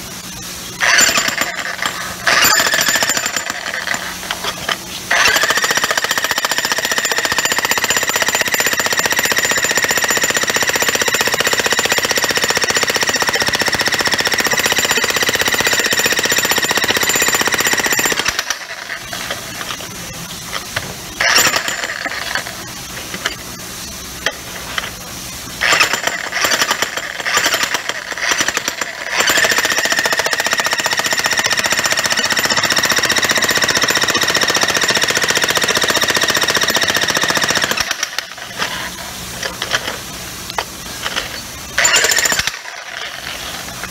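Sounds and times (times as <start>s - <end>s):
jackhammer hammering: 0.8s - 19.9s, 21.2s - 22.6s, 25.6s - 38.8s, 41.8s - 43.9s.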